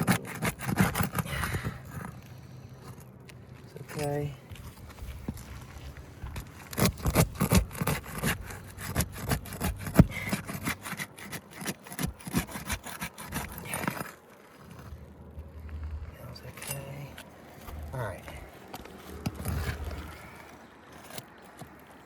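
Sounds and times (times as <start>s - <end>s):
shingles scraping and crackling: 0.0s - 22.0s.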